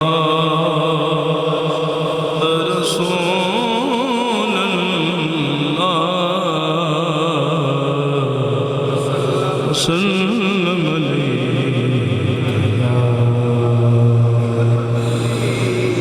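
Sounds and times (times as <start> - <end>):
man chanting: 0.0 - 16.0.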